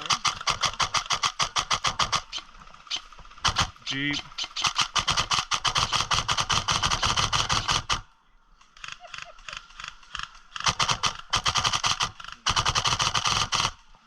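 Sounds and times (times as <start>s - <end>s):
airsoft rifle full-auto bursts: 0.0s - 8.1s, 8.7s - 13.9s.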